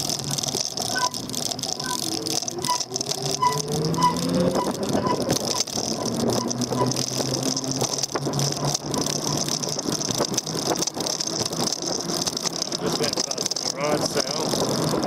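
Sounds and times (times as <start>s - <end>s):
rolling and rattling: 0.0s - 15.0s.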